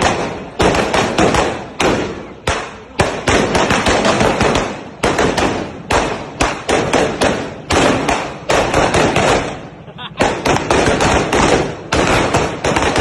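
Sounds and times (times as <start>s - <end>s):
firecracker string bangs: 0.0s - 13.0s.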